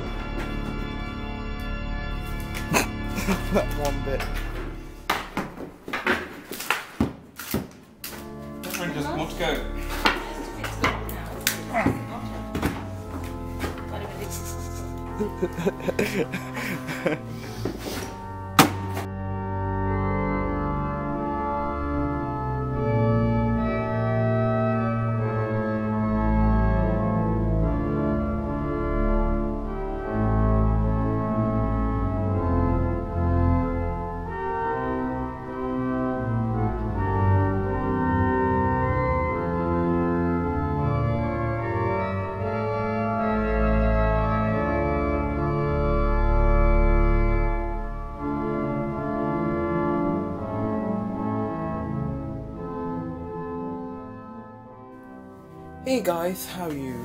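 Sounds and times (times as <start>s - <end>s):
organ music: 0.0s - 6.8s, 7.4s - 57.0s.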